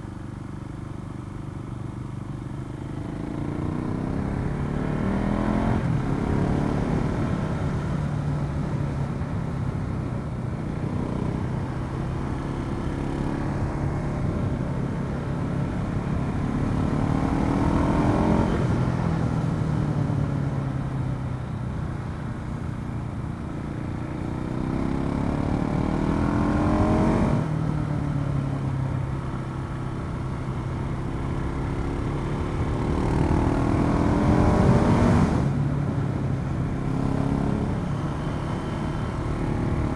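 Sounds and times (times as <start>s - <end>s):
motorcycle engine revving: 2.3s - 9.3s, 10.3s - 21.0s, 23.7s - 39.9s.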